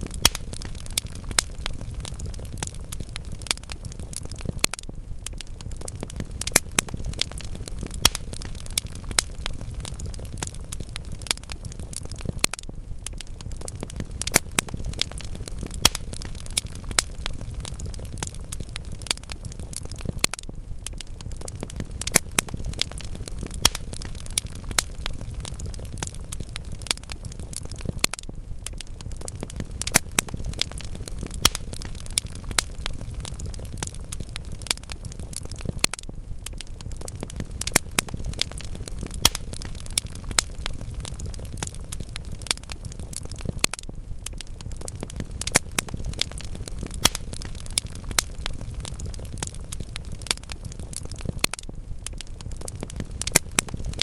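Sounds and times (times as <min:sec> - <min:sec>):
fire crackling and popping: 0:00.0 - 0:54.0
fireplace flames rumbling: 0:00.0 - 0:54.0.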